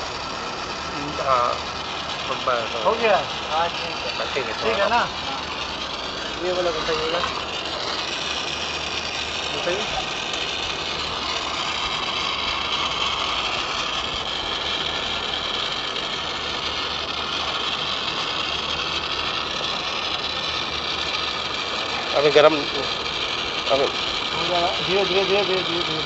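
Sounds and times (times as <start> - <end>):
brazing torch hissing: 0.0 - 26.0.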